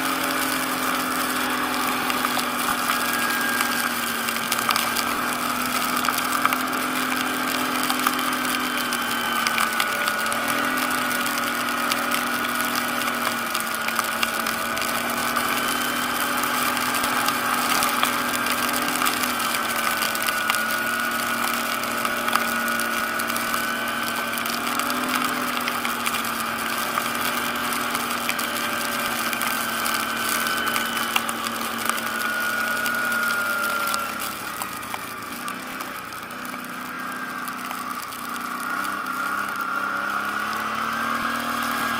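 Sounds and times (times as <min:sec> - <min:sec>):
atv engine running: 0:00.0 - 0:41.9
drivetrain whine: 0:00.0 - 0:41.9.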